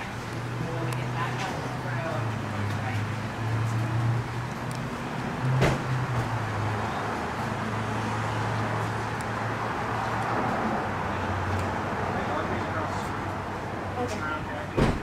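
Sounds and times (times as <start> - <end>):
street traffic: 0.0 - 15.0
vehicle engine humming: 0.0 - 15.0.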